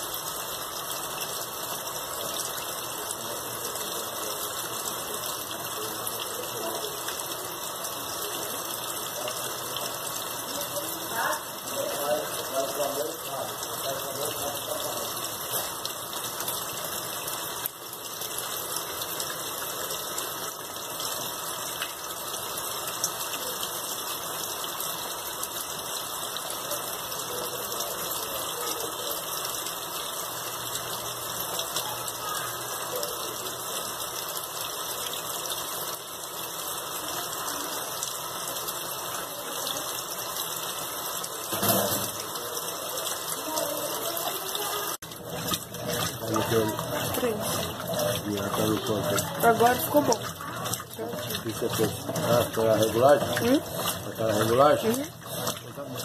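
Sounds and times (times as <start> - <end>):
water pouring into washing machine: 0.0 - 56.0.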